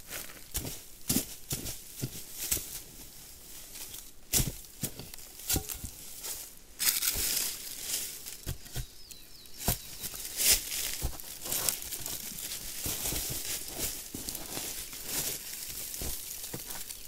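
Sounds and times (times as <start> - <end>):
dry branches and leaves rustling: 0.0 - 17.0.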